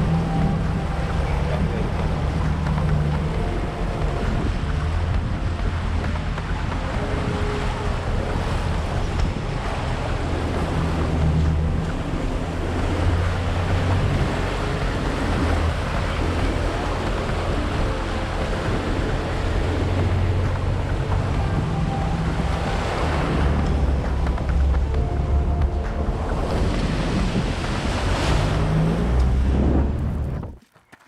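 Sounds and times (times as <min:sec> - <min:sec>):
low engine drone: 0:00.0 - 0:30.6
tyre and wind noise: 0:00.0 - 0:31.0.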